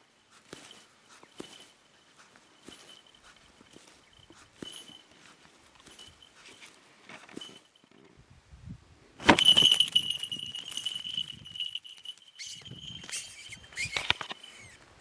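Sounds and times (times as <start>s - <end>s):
falconry bell jingling: 0.0s - 8.0s, 9.3s - 14.8s
rustling: 0.0s - 8.1s, 9.2s - 15.0s.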